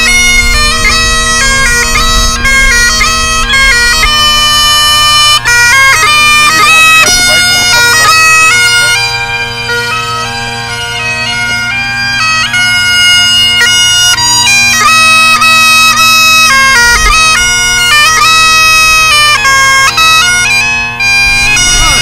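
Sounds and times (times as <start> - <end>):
bagpipe playing: 0.0 - 22.0.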